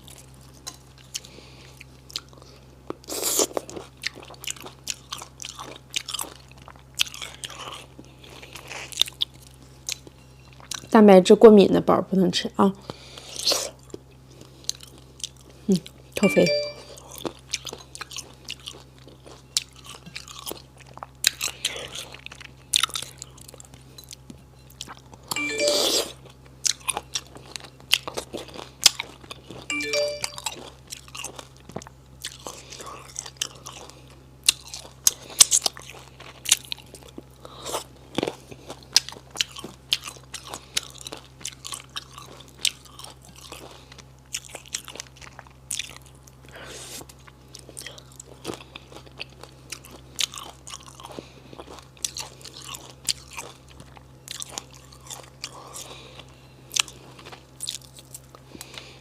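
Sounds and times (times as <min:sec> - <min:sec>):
close chewing and crunching: 0:00.0 - 0:11.0, 0:12.8 - 0:25.4, 0:26.2 - 0:59.0.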